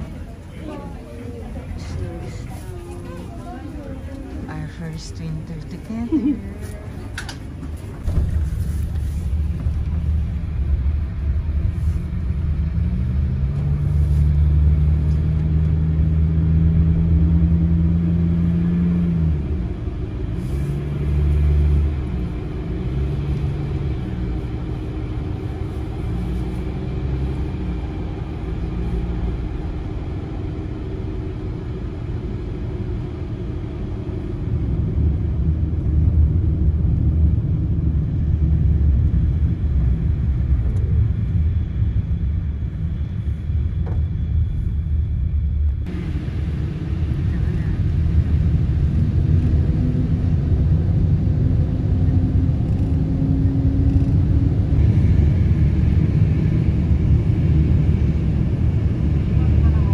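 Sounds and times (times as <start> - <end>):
low engine hum: 0.0 - 59.9
road rumble inside vehicle: 0.0 - 59.9.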